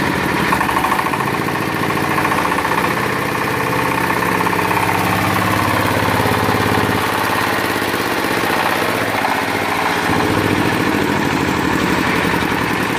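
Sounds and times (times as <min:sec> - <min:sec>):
concrete saw diesel engine running: 0:00.0 - 0:12.9.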